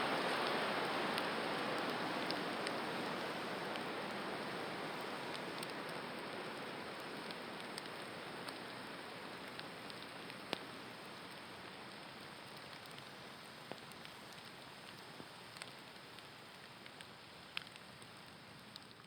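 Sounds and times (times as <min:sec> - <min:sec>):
small pops from fire: 0:00.0 - 0:19.0
water sizzling on a fire: 0:00.0 - 0:19.0.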